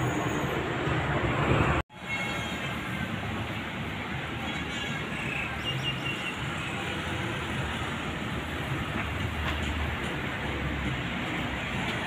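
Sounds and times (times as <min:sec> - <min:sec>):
traffic rushing: 0:00.0 - 0:12.0.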